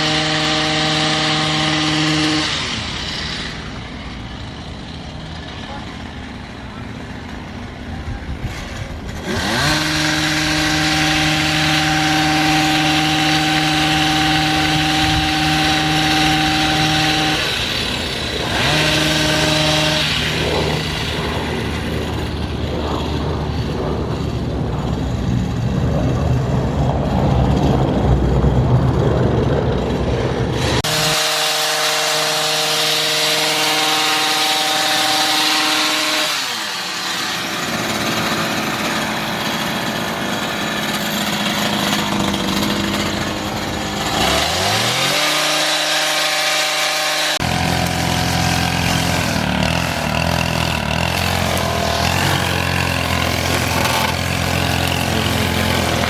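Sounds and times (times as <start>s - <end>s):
small yard tool engine running: 0.0s - 56.0s.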